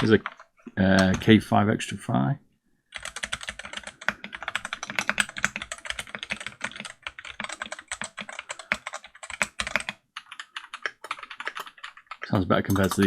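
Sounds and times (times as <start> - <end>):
mechanical keyboard typing: 0.0 - 1.4, 2.9 - 13.0.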